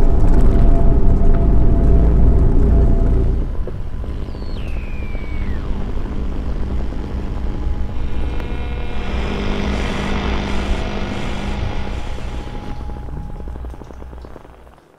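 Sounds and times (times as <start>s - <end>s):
layered steady tones: 0.0s - 14.8s
low rumbling drone: 0.0s - 14.9s.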